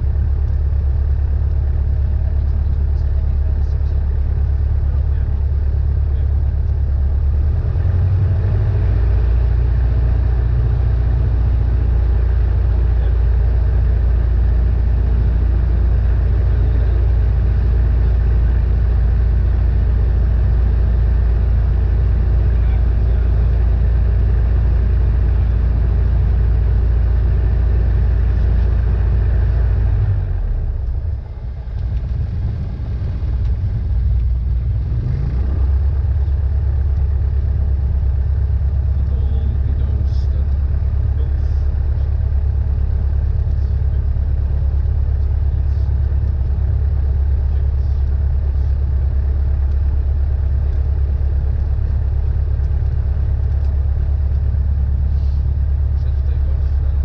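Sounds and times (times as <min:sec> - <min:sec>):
airplane engine and propeller droning: 0:00.0 - 0:57.0.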